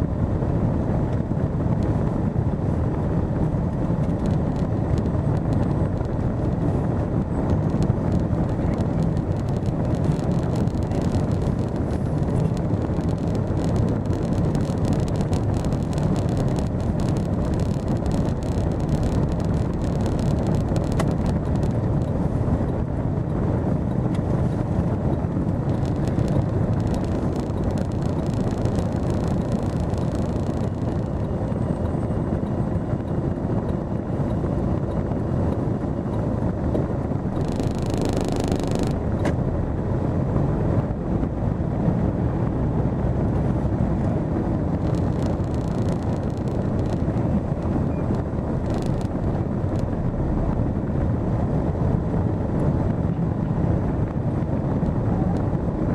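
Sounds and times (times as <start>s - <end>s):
car engine and tyres rumbling: 0.0s - 55.9s.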